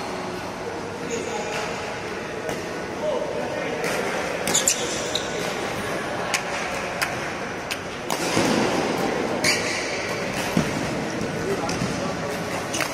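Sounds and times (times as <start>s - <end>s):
sports hall noise: 0.0s - 12.9s.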